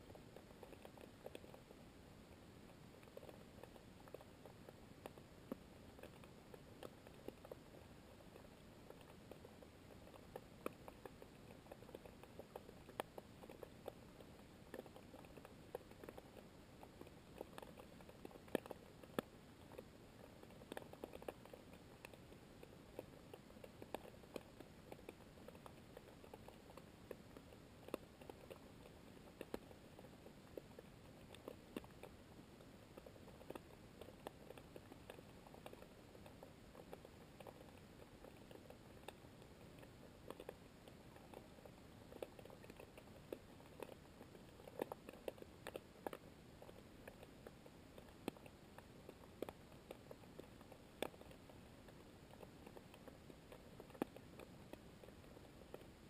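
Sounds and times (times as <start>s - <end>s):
crackling clicks: 0.0s - 1.8s, 2.6s - 56.0s.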